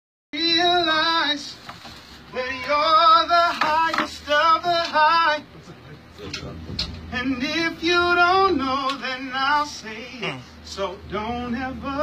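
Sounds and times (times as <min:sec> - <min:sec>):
man singing unaccompanied: 0:00.3 - 0:05.6, 0:07.0 - 0:12.0.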